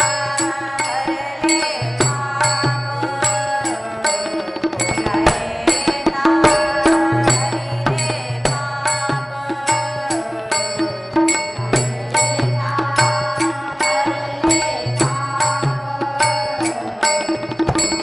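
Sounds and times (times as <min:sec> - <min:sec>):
tabla beat: 0:00.0 - 0:18.0
women singing: 0:00.0 - 0:18.0.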